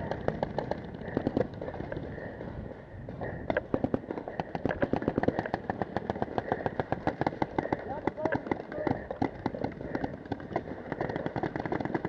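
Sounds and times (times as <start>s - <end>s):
paintball markers firing: 0.0s - 2.3s, 3.4s - 12.0s.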